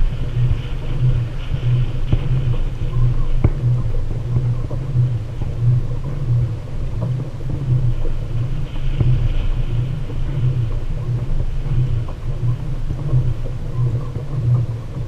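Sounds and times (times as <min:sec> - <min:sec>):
low rumble on microphone: 0:00.0 - 0:15.0.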